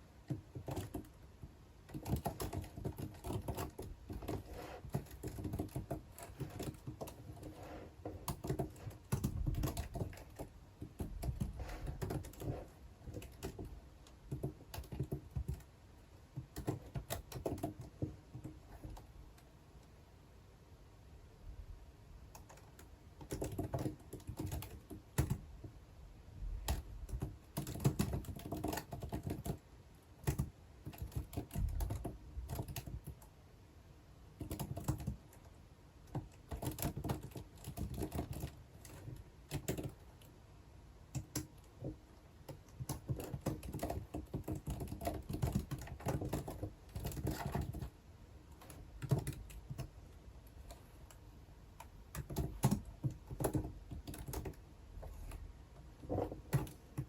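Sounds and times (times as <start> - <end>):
typing on computer keyboard: 0.2 - 19.1, 22.3 - 25.8, 26.5 - 33.3, 34.3 - 40.3, 41.1 - 51.2, 51.8 - 57.0.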